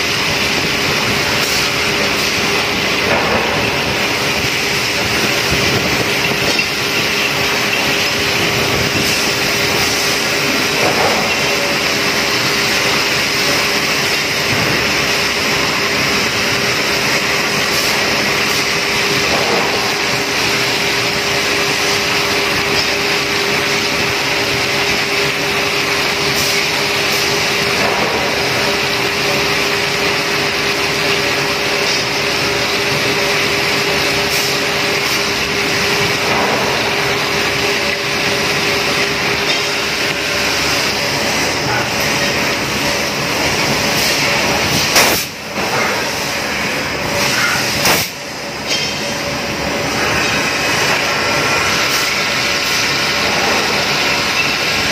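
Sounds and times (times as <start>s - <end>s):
coolant spray hissing: 0.0s - 48.4s, 49.4s - 54.9s
milling machine cutting metal: 0.0s - 54.9s.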